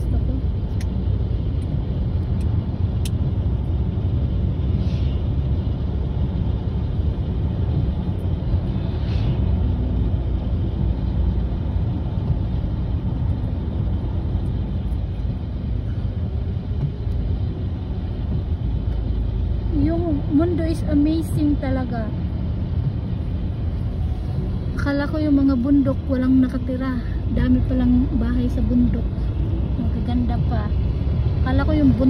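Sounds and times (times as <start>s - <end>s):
vehicle engine and tyre noise: 0.0s - 32.0s.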